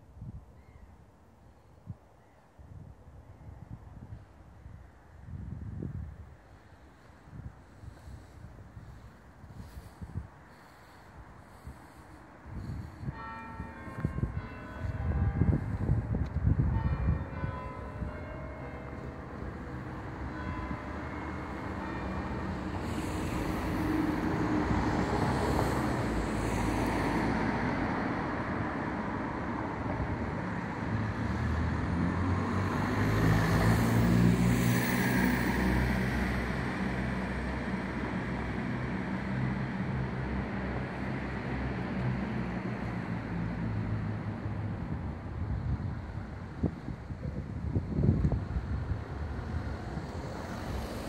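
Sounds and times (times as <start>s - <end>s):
traffic rumble of passing vehicles: 4.9s - 51.0s.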